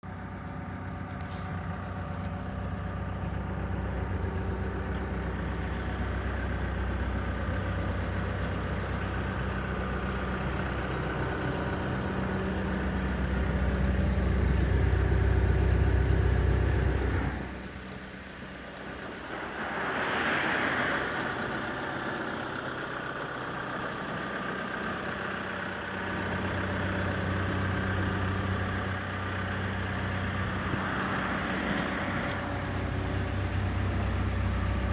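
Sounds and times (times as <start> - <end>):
excavator diesel engine humming: 0.0 - 34.9.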